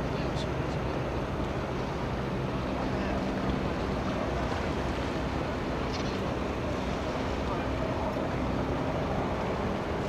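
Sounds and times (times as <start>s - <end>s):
boat engine hum: 0.0s - 10.0s.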